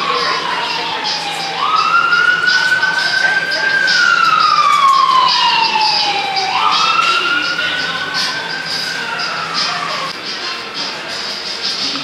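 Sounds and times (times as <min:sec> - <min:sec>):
emergency siren wailing: 0:00.0 - 0:10.2.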